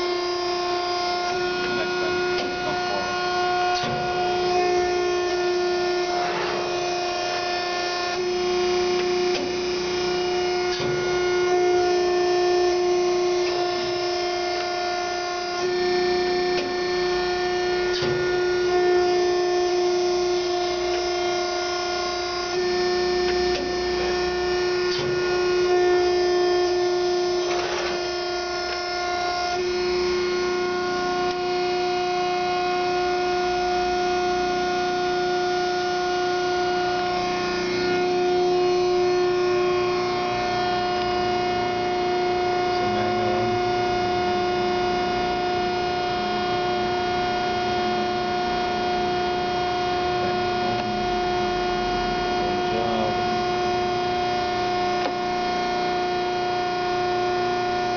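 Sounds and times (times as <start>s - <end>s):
hydraulic pump whine: 0.0s - 57.9s.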